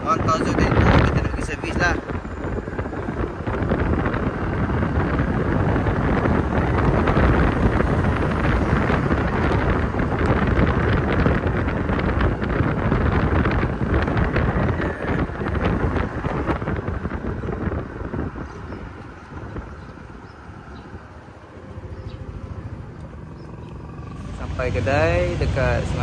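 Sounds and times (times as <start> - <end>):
scooter running with road noise: 0.0 - 26.0
wind buffeting microphone: 0.0 - 26.0.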